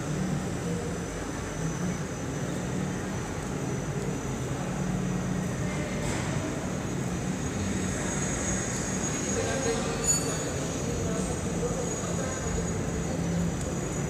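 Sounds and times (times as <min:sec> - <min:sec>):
thin high whine: 0:00.0 - 0:14.0.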